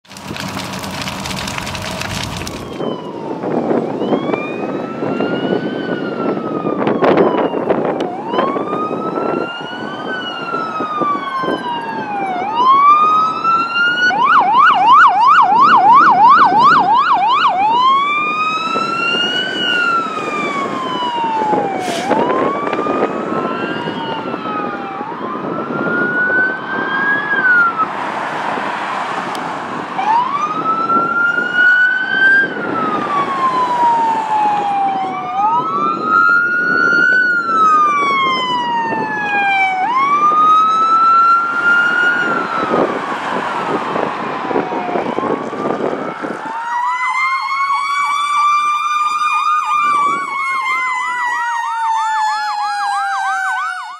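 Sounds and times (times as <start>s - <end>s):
vehicle engine and tyre noise: 0.0s - 47.8s
sirens wailing: 0.0s - 53.9s
siren fast yelp: 2.6s - 27.9s, 30.0s - 53.9s.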